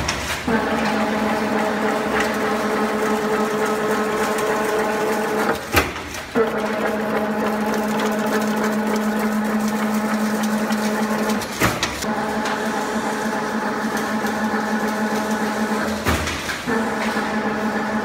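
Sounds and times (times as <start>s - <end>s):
weaving machine hum: 0.0s - 18.0s.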